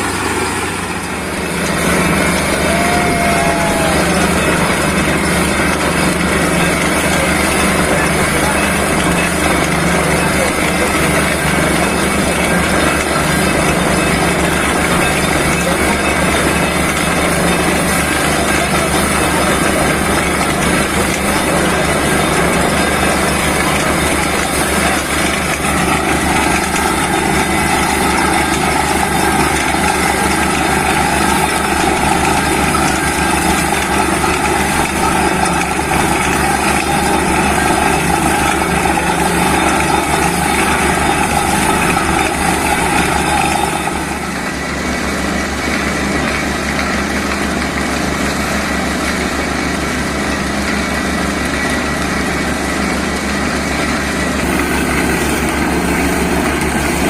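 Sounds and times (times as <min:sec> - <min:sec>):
drilling rig engine droning: 0:00.0 - 0:57.0.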